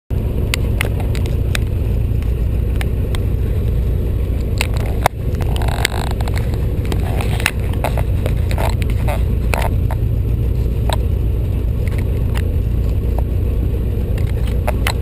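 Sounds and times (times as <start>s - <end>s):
propeller aircraft engine drone: 0.1s - 15.0s.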